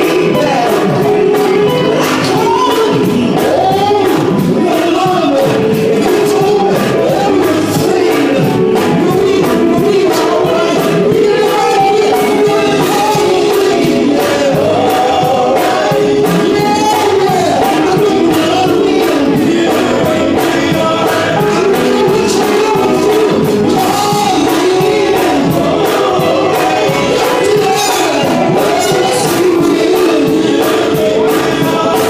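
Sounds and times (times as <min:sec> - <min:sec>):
male gospel group singing: 0:00.0 - 0:32.0
steady beat: 0:00.0 - 0:32.0.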